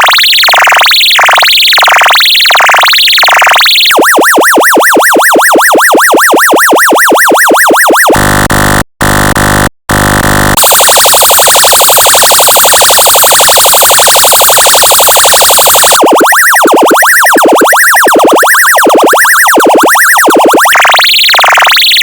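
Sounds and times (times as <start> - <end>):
rapid warbling tone: 0.0 - 8.2, 10.6 - 22.0
slow sweeping siren: 0.0 - 8.2, 10.5 - 22.0
yelp siren tone: 0.0 - 8.4, 10.6 - 22.0.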